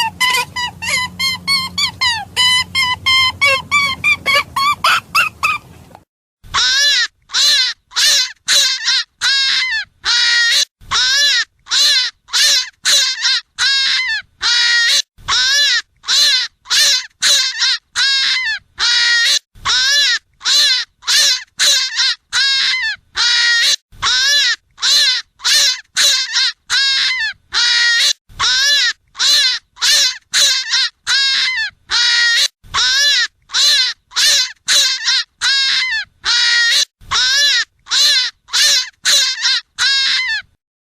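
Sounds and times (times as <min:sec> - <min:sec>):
squealing hunting calls: 0:00.0 - 0:05.7, 0:06.6 - 0:40.5.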